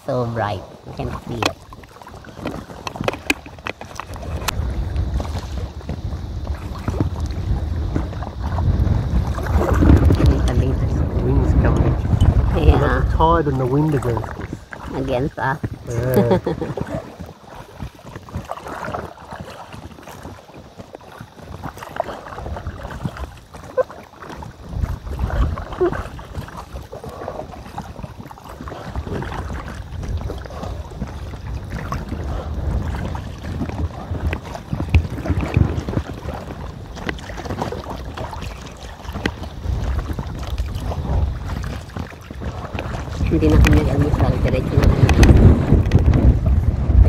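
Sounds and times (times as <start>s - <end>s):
paddle strokes splashing: 0.0s - 47.0s
water lapping against kayak: 0.0s - 47.0s
wind buffeting microphone: 0.0s - 47.0s.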